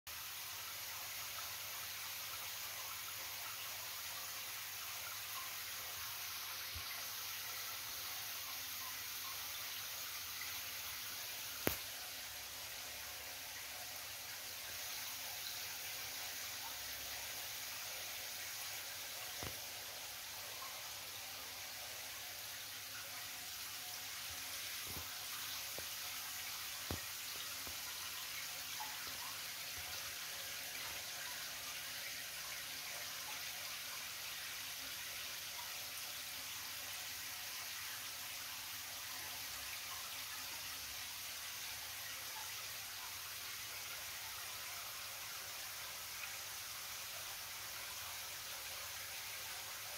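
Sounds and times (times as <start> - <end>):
aquarium water bubbling: 0.1 - 49.9.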